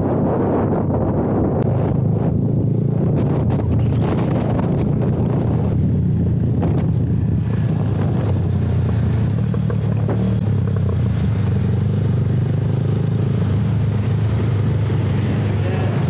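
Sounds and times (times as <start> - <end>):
road and wind noise: 0.0 - 16.0
motorcycle engine cruising: 0.3 - 16.0.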